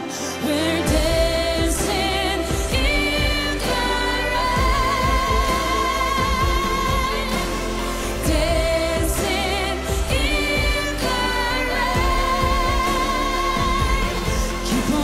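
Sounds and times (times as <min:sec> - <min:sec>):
pop ballad backing music: 0:00.0 - 0:15.0
woman singing with vibrato: 0:00.0 - 0:15.0.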